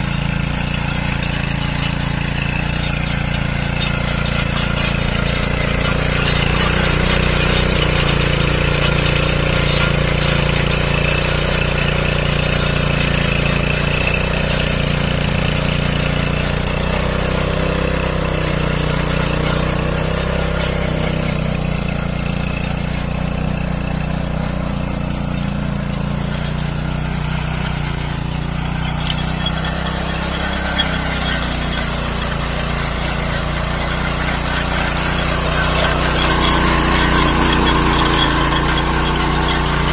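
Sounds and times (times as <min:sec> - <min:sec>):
small cultivator engine running: 0:00.0 - 0:39.9.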